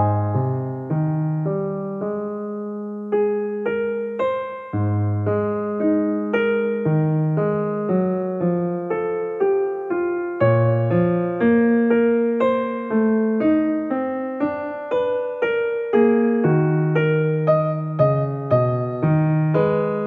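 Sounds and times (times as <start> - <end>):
calm piano music: 0.0 - 20.0.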